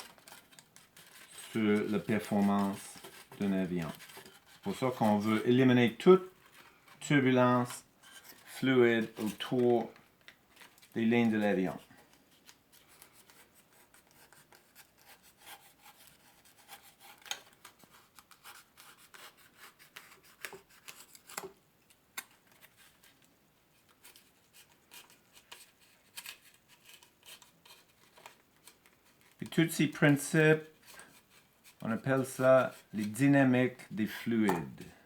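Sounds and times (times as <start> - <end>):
knife scraping styrofoam: 0.0 - 9.9, 12.9 - 21.5, 23.9 - 34.9.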